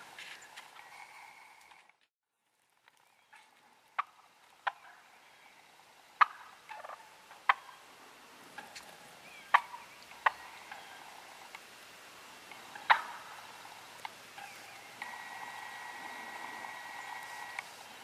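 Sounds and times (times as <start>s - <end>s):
wild turkeys calling: 0.0s - 1.9s, 2.9s - 18.0s.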